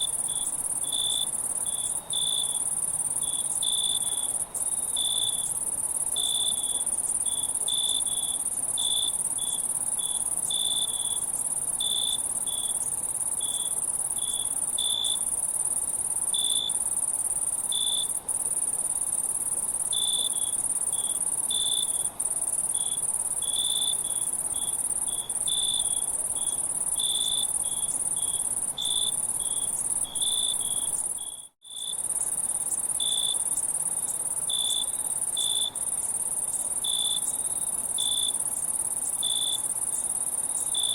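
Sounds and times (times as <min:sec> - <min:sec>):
insect chirps: 0:00.0 - 0:40.9
insects trilling: 0:00.0 - 0:40.9.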